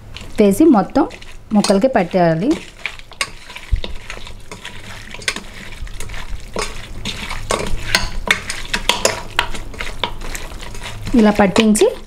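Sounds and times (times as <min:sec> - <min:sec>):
meat mixed by hand in steel bowl: 0:00.0 - 0:12.0.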